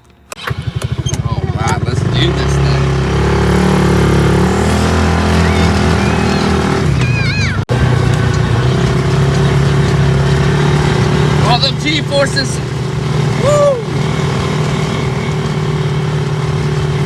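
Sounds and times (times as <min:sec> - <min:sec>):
small vehicle engine running: 0:00.3 - 0:17.0.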